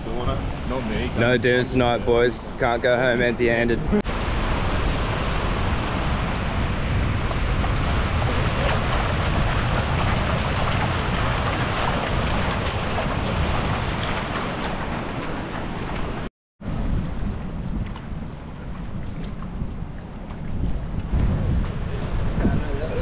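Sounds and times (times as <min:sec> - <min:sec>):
strong wind buffeting microphone: 0:00.0 - 0:23.0
surf washing up beach: 0:00.0 - 0:23.0.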